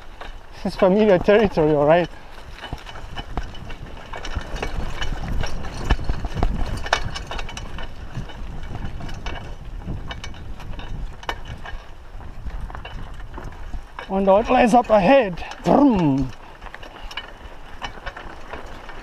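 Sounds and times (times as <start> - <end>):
bike clicking and rattling: 0.0 - 19.0
bike tyres rumbling on dirt: 0.0 - 19.0.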